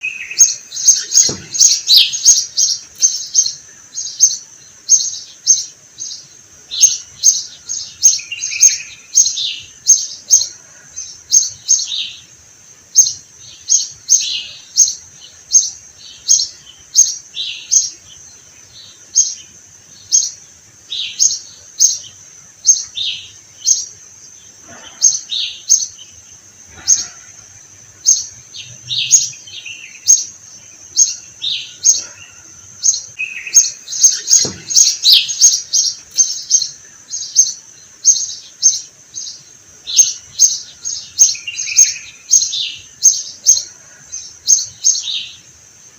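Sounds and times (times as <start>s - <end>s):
sparrows chirping: 0.0s - 45.9s.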